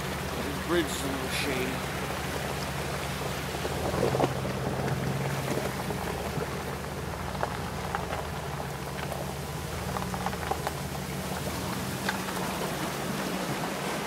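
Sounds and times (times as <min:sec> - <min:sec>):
car engine running: 0:00.0 - 0:14.0
water splashing against vehicle: 0:00.0 - 0:14.0.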